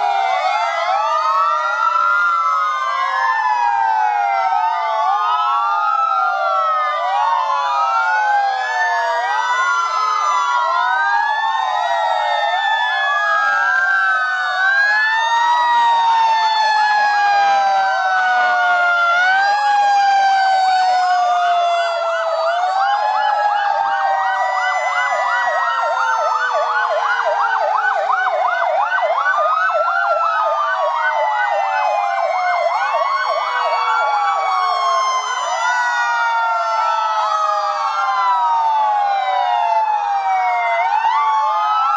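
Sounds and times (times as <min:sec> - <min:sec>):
fast siren yelp: 0:00.0 - 0:41.9
fire engine sirens wailing: 0:00.0 - 0:41.9.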